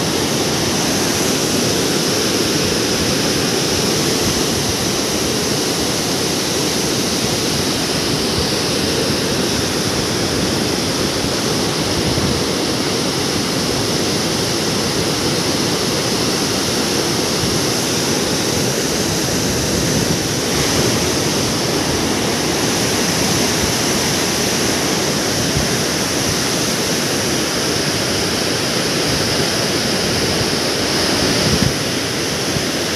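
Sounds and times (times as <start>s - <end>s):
water rushing down spillway: 0.0s - 32.9s.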